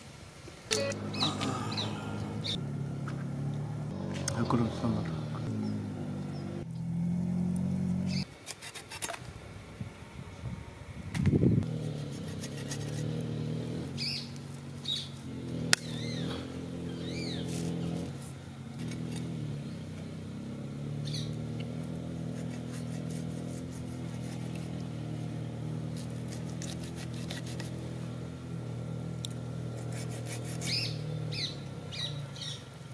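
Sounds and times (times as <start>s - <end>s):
engine running: 0.7s - 8.3s, 11.1s - 32.9s.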